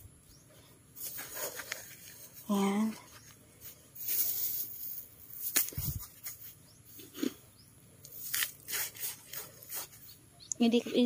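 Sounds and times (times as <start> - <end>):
hands rustling potting mix: 0.8 - 7.4, 8.0 - 11.0.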